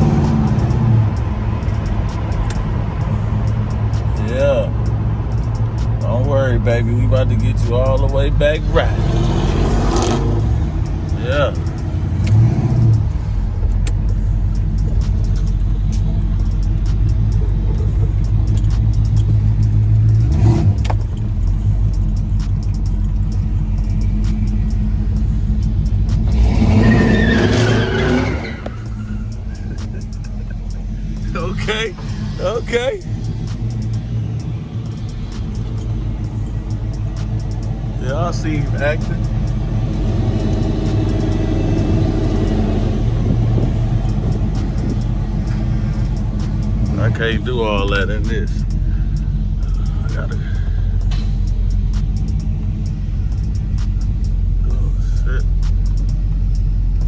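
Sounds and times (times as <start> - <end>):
car engine exhaust rumble: 0.0 - 57.0.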